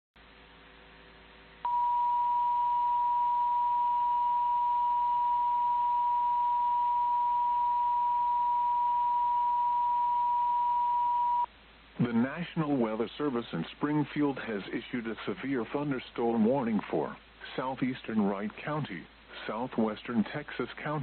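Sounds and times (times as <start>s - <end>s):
faint low hum: 0.2s - 21.0s.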